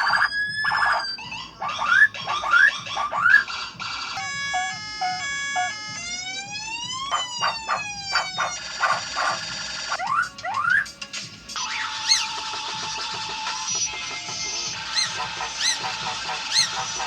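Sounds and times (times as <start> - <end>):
bird mimicking a siren: 0.0 - 13.8, 14.7 - 17.0.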